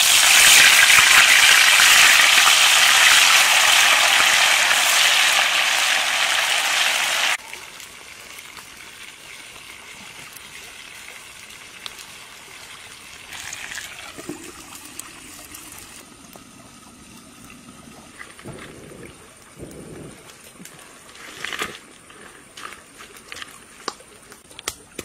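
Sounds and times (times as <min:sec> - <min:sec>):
water boiling hard: 0:00.0 - 0:23.9.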